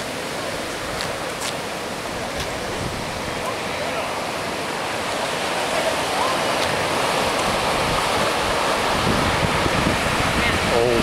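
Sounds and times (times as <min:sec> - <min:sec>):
surf washing over pavement: 0:00.0 - 0:11.0.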